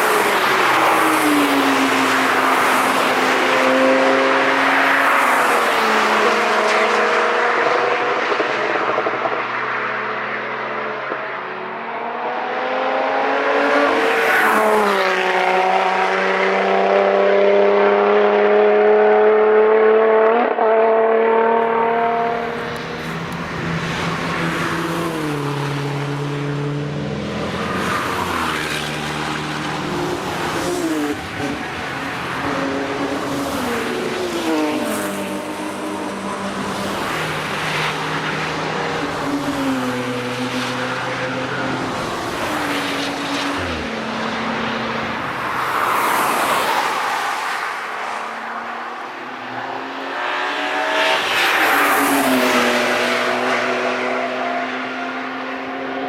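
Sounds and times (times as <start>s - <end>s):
race cars passing at high revs: 0.0s - 56.0s.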